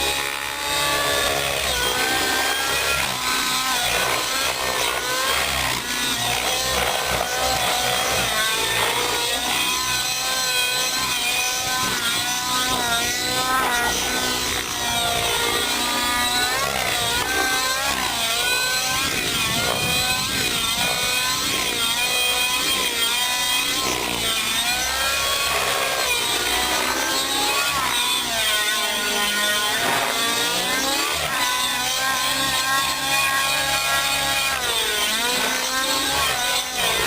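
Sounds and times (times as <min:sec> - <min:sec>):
model helicopter engine whining: 0:00.0 - 0:31.6.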